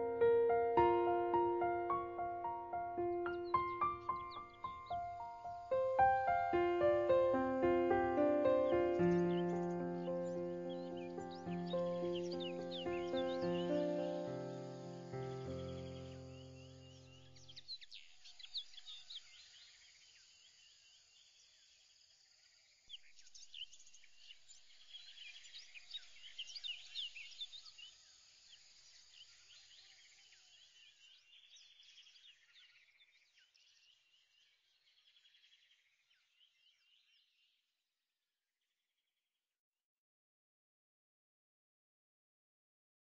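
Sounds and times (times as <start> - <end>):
small birds chirping: 0.0 - 37.6.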